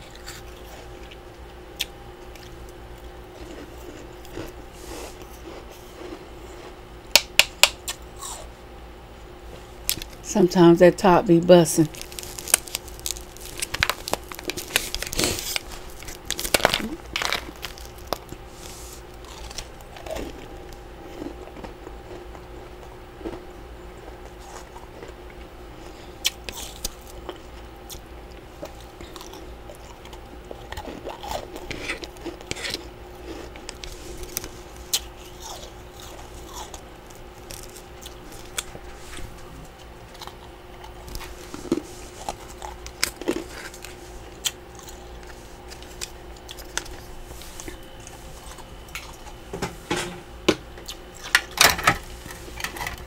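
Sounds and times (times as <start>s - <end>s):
chewing crunchy frost: 0.0s - 6.9s, 11.9s - 49.5s
faint steady hum: 0.0s - 53.0s.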